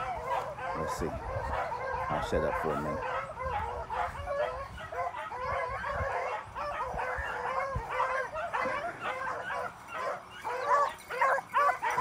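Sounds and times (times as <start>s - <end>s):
hounds baying in chorus: 0.0s - 12.0s.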